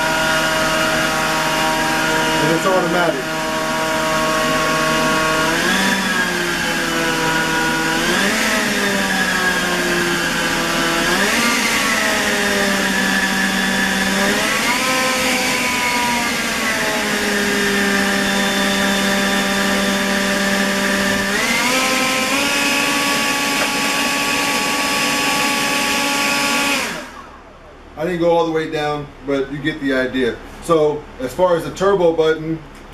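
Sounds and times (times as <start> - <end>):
leaf blower whining: 0.0 - 27.6.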